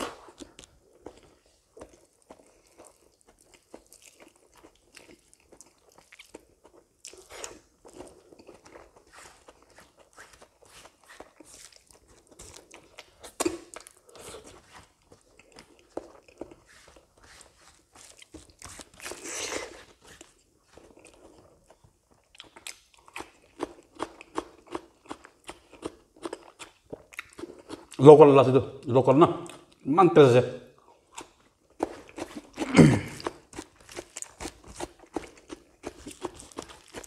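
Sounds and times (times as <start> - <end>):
man chewing and crunching food: 0.0 - 28.1, 29.4 - 29.9, 30.8 - 37.0.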